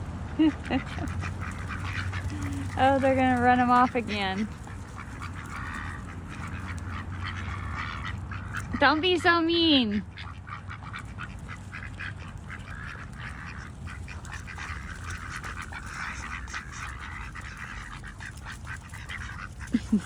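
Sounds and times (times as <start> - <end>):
low hum: 0.0 - 18.4
ducks quacking: 0.0 - 20.0.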